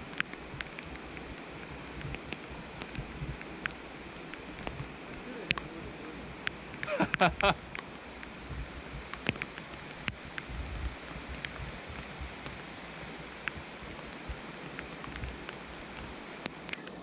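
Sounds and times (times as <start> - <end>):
raindrops ticking on camera: 0.0 - 17.0
steady rain hiss: 0.0 - 17.0.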